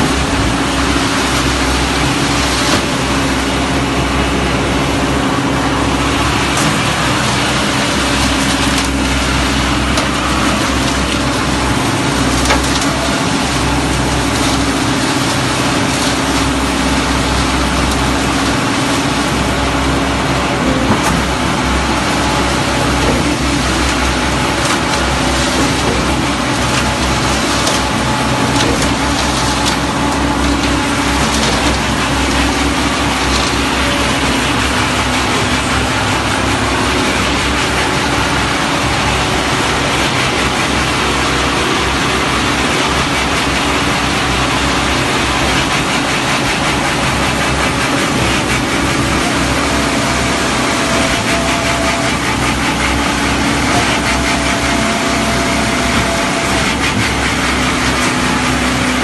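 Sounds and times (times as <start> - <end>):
diesel pump engine running: 0.0 - 59.0.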